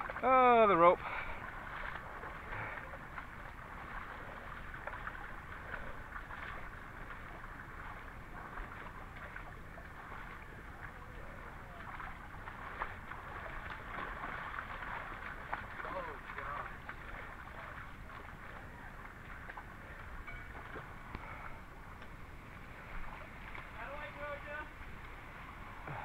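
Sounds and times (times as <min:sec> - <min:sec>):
creek running over rocks: 0:00.0 - 0:26.0
feet splashing in water: 0:00.0 - 0:26.0.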